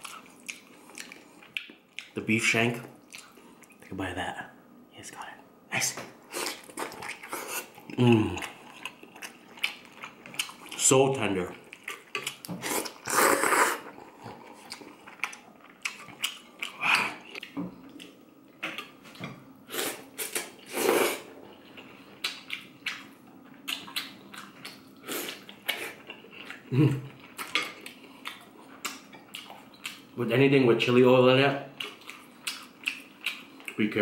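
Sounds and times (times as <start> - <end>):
chewing and mouth noises: 0.0 - 2.2, 3.0 - 3.9, 6.3 - 18.2, 19.8 - 30.2, 31.8 - 33.8.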